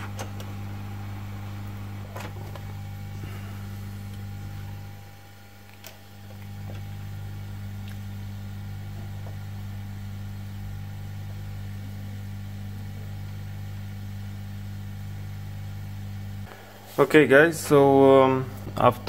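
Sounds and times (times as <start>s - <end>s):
hot air station humming: 0.0s - 19.0s.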